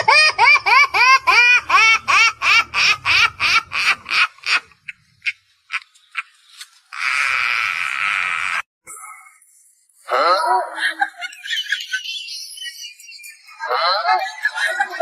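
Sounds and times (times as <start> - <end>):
high-pitched laughter: 0.0 - 8.6, 10.2 - 15.0.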